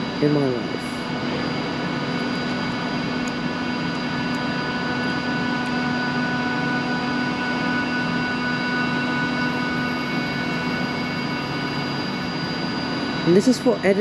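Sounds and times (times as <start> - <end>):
electric train whining: 0.0 - 14.0.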